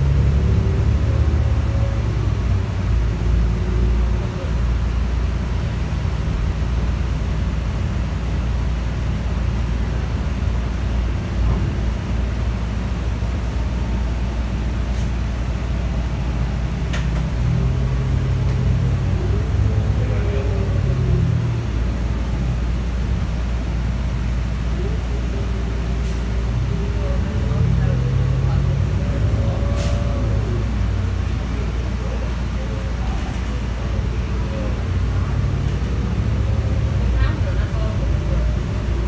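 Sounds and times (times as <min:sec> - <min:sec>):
bus engine rumbling: 0:00.0 - 0:39.0
road noise: 0:00.0 - 0:39.0.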